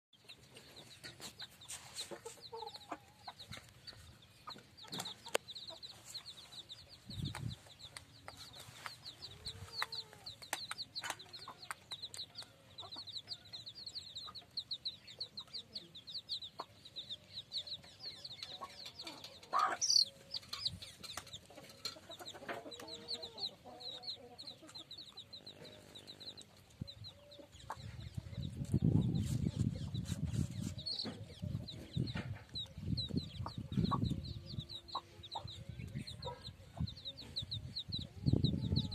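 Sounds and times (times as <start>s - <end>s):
chicks peeping: 0.2s - 38.9s
hen clucking: 0.2s - 38.9s.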